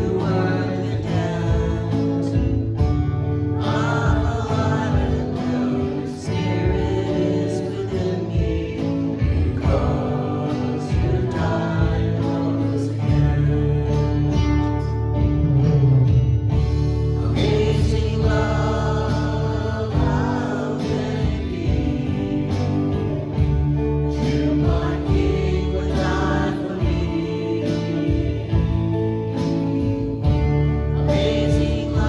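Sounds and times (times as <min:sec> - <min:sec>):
group of voices singing: 0:00.0 - 0:15.2, 0:16.6 - 0:32.0.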